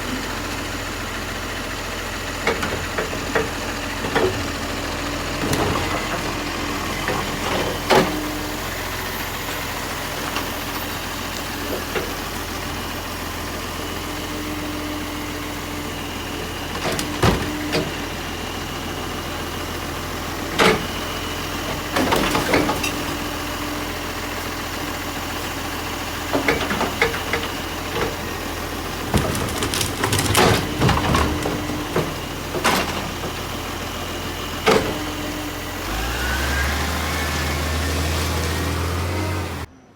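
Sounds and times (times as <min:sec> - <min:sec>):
garbage truck engine idling: 0:00.0 - 0:39.8.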